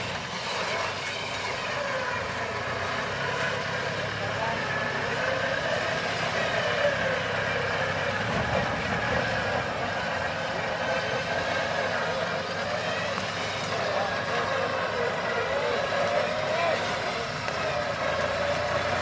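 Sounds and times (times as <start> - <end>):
indistinct voices: 0.0 - 19.0
pickup truck engine running: 0.0 - 19.0.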